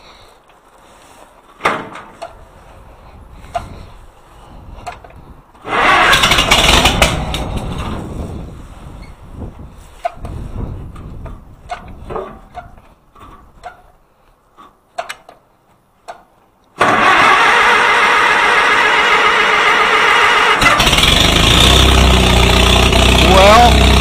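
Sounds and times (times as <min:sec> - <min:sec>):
tractor engine starting and running: 0:00.6 - 0:13.9, 0:16.1 - 0:24.0.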